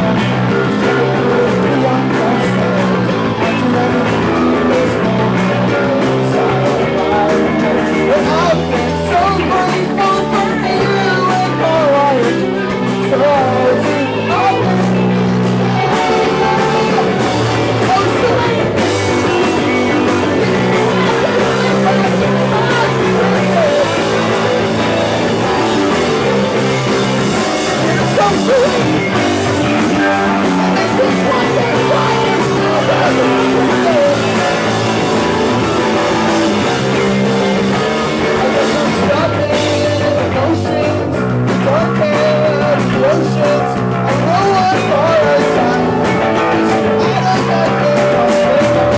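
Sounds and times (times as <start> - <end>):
electric guitar: 0.0 - 48.9
live rock band playing: 0.0 - 48.9.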